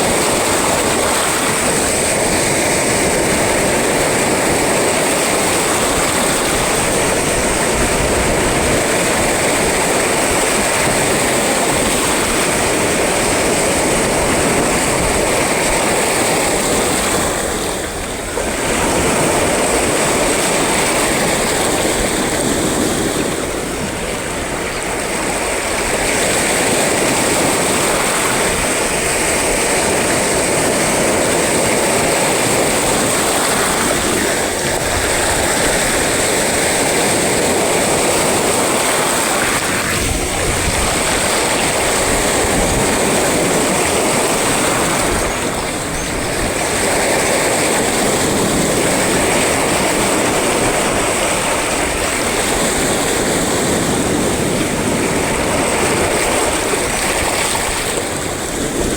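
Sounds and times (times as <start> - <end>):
sea waves: 0.0 - 58.9
wind: 0.0 - 58.9.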